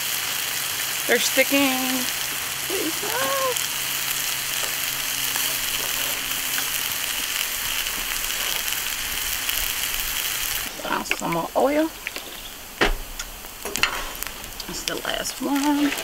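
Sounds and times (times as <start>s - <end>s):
oil sizzling on griddle: 0.0s - 16.0s.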